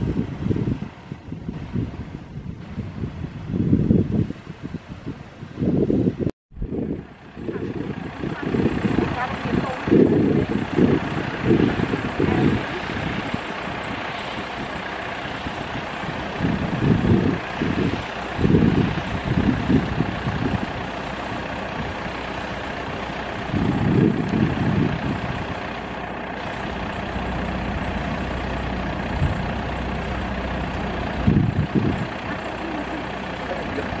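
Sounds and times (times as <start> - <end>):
combine harvester engine running: 0.0 - 34.0
low rumbles: 0.0 - 34.0.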